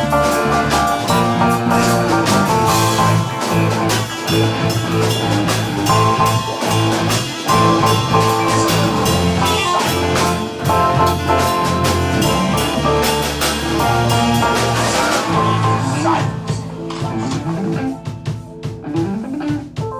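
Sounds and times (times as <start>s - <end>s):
sustained chords: 0.0s - 19.3s
drum kit beat: 0.0s - 19.9s.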